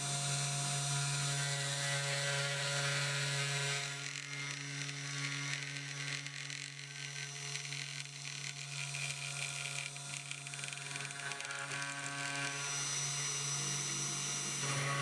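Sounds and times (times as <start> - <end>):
cnc router spindle motor humming: 0.0 - 15.0.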